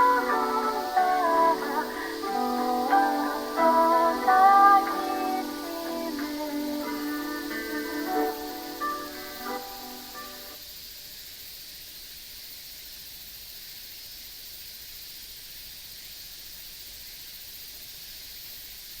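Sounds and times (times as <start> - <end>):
high hiss of outdoor ambience: 0.0 - 19.0.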